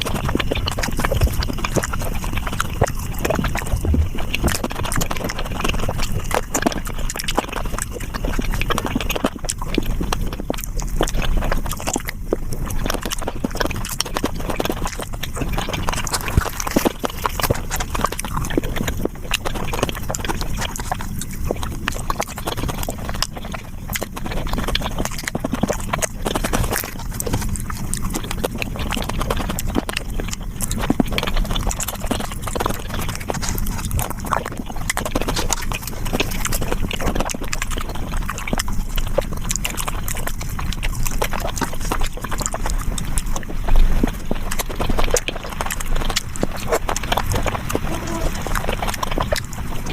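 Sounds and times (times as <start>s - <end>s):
wet chewing clicks and smacks: 0.0s - 49.9s.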